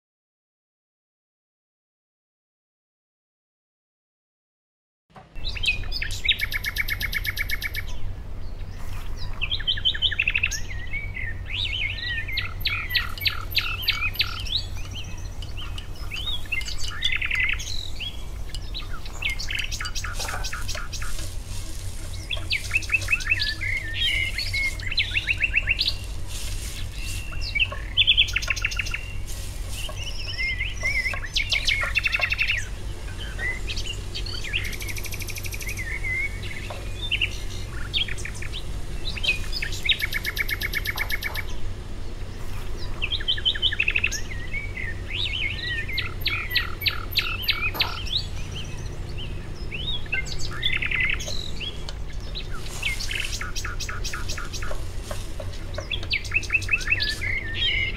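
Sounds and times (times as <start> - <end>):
birds chirping and singing: 5.2 - 57.9
steady low hum: 5.3 - 57.9.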